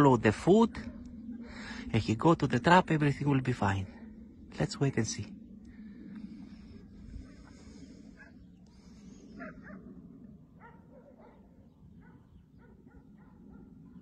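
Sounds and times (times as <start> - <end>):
distant dogs barking and yipping: 0.0 - 1.9, 3.6 - 4.6, 5.6 - 14.0.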